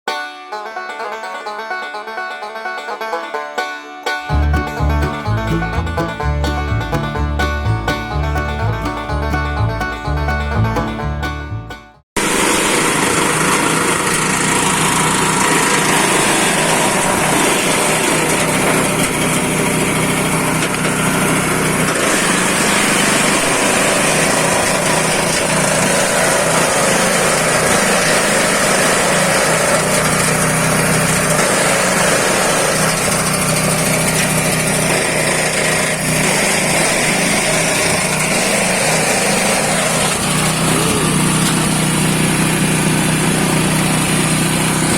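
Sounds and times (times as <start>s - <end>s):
banjo music: 0.1s - 44.9s
chopping machine running: 4.2s - 44.9s.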